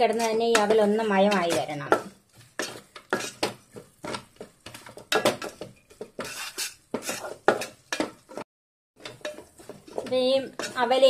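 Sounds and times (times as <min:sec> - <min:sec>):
wooden spatula scraping a metal pot: 0:00.0 - 0:08.4, 0:09.0 - 0:11.0.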